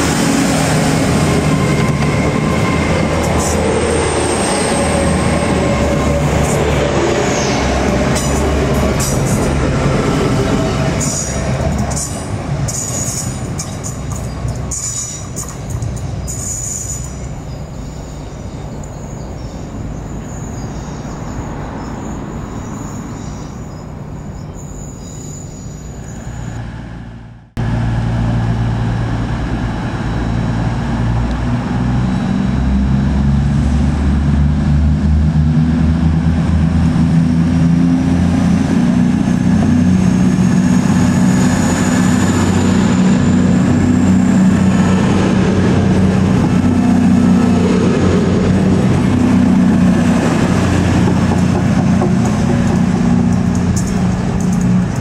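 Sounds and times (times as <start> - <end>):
diesel train engine throbbing: 0.0 - 20.9, 26.3 - 55.0
rolling train noise: 0.0 - 55.0.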